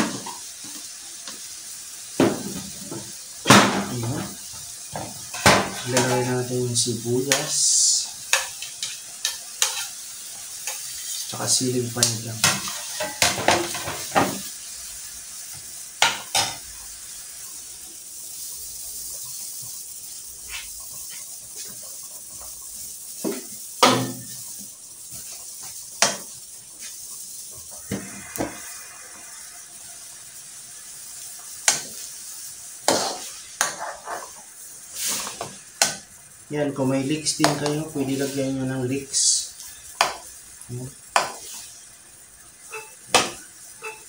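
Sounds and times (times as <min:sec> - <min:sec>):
soup simmering hiss: 0:00.0 - 0:44.0.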